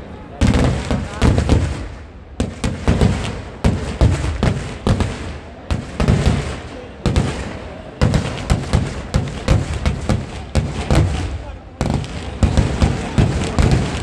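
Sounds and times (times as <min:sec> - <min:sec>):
fireworks bangs: 0:00.3 - 0:14.0.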